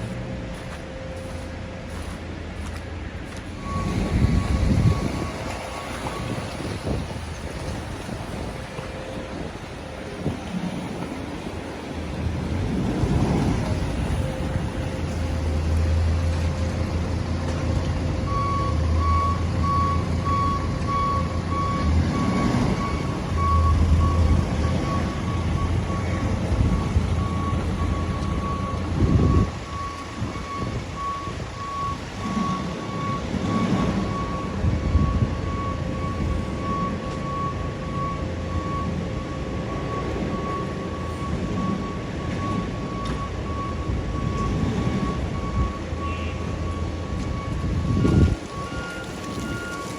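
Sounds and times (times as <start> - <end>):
truck engine running: 0.0 - 49.9
truck reversing alarm beeping: 0.0 - 49.9.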